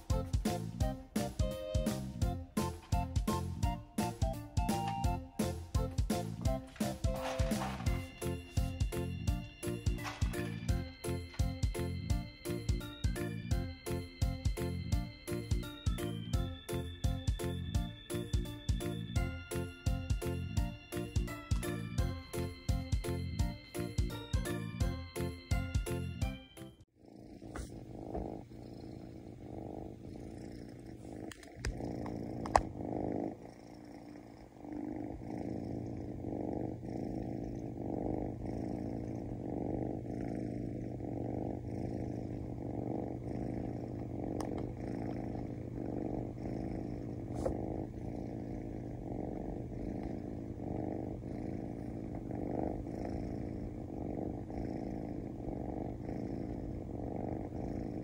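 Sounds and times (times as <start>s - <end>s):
kitten purring: 0.0s - 58.0s.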